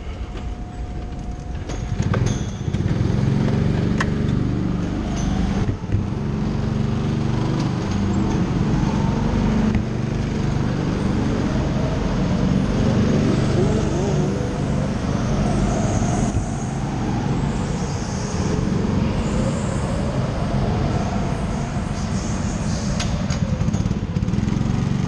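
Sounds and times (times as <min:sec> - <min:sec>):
go-kart motors running: 0:00.4 - 0:25.0.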